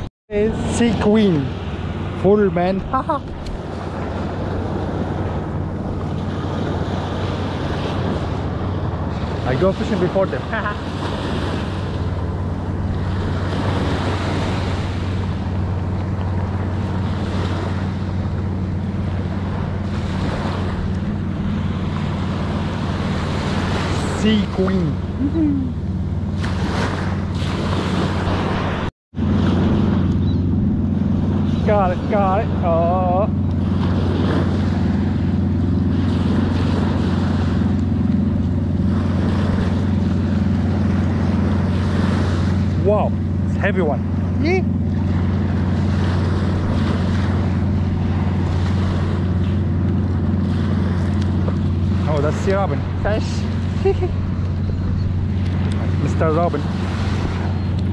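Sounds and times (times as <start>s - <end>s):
low hum: 0.0s - 57.9s
motorboat engine droning: 0.0s - 57.9s
wind buffeting microphone: 0.0s - 57.9s
small waves washing onto sand: 0.5s - 25.3s, 26.2s - 30.1s, 30.9s - 54.6s, 55.2s - 57.9s.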